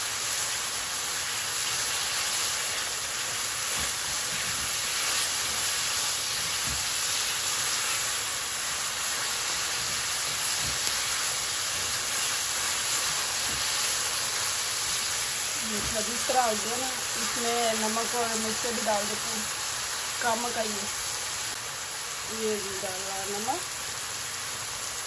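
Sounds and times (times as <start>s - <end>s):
onions sizzling in oil: 0.0s - 25.0s.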